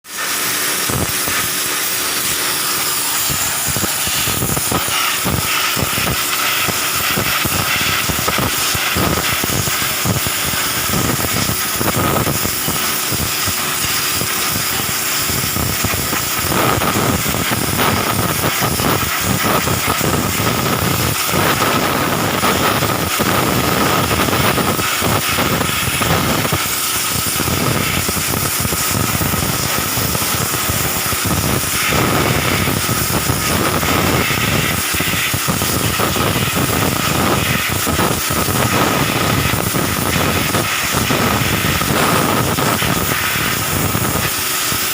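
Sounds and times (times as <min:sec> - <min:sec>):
pressure washer water jet hissing: 0:00.0 - 0:44.9
thin whine: 0:00.0 - 0:44.9.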